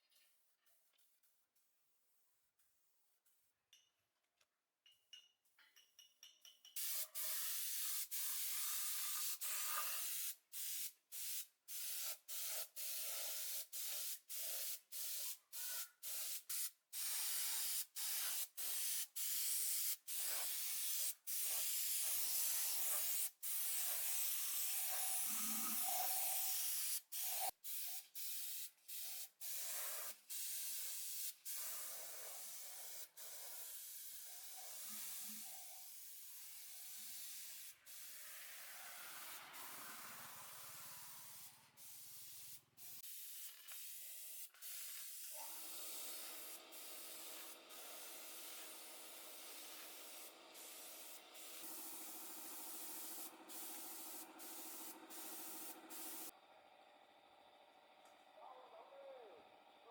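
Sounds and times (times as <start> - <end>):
hissing spray: 6.8 - 56.3.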